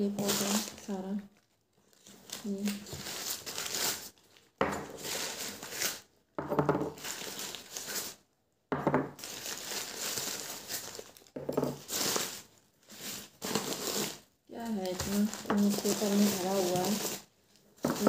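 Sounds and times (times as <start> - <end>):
newspaper rustling and crinkling: 0.0 - 6.1, 6.9 - 8.2, 9.2 - 18.0.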